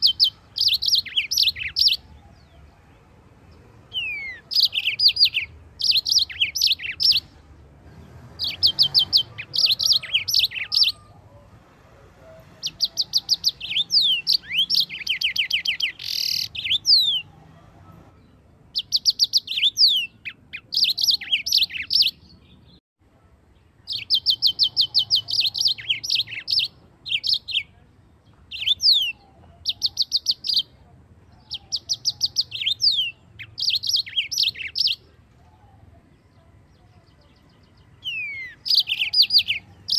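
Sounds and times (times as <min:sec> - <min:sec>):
bird singing high chirps and trills: 0:00.0 - 0:11.4, 0:12.5 - 0:17.4, 0:18.2 - 0:22.8, 0:23.5 - 0:39.9.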